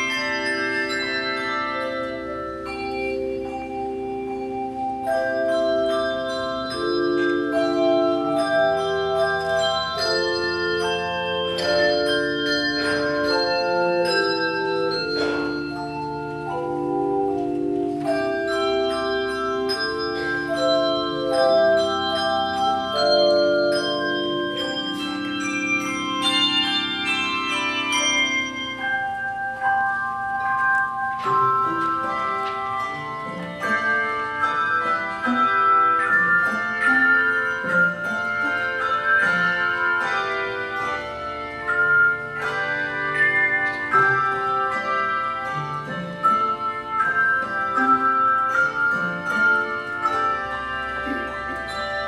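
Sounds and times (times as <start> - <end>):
handbell choir ringing: 0.0 - 52.0.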